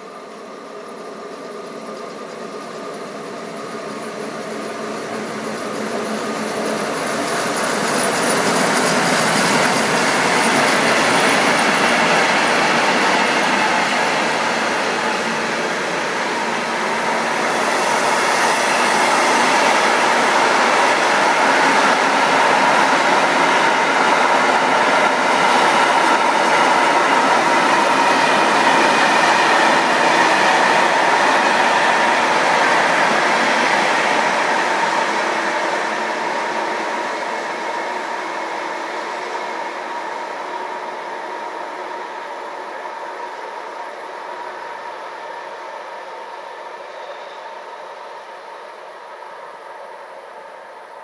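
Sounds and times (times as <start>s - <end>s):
freight train wheels rumbling on rails: 0.0s - 51.0s.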